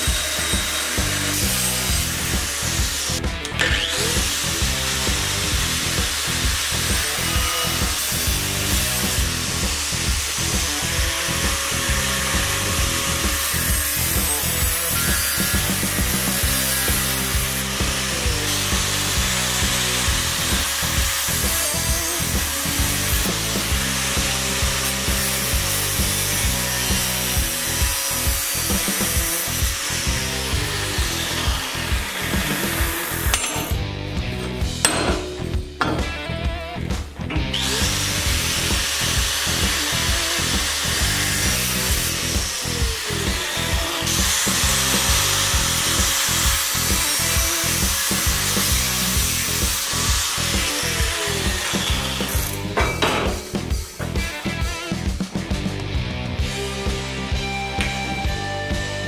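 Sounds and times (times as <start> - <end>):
angle grinder cutting steel: 0.0 - 55.1.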